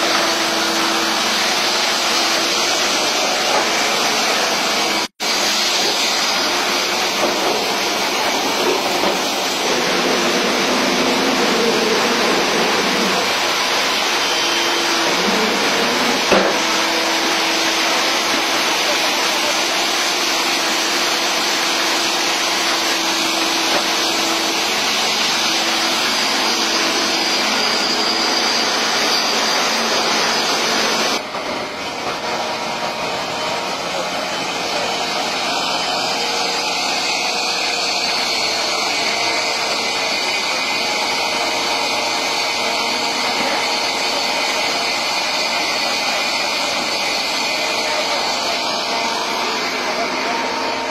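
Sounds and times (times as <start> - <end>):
construction machinery running: 0.0 - 50.9.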